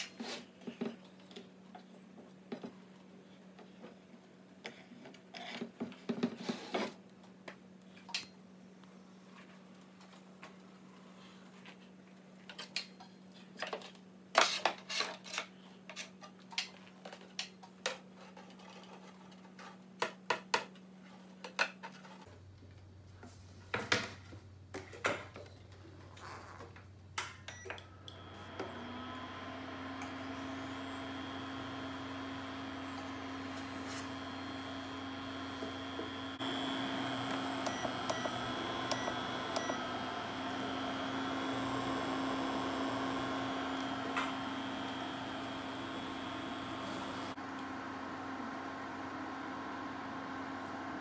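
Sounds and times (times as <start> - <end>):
induction cooktop hum and whine: 0.0 - 51.0.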